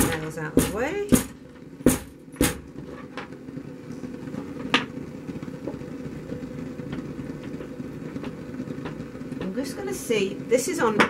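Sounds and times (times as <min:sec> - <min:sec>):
gas burner rushing: 0:00.0 - 0:11.0.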